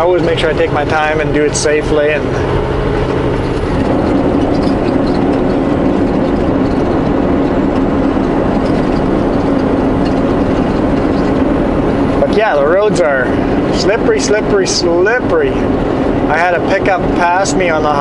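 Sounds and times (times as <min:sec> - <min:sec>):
diesel engine drone: 0:00.0 - 0:18.0
road rumble: 0:00.0 - 0:18.0.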